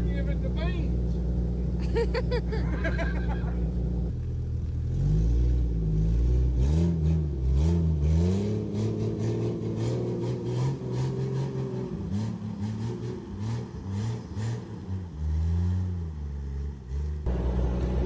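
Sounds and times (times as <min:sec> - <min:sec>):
jeep engine revving: 0:00.0 - 0:18.0.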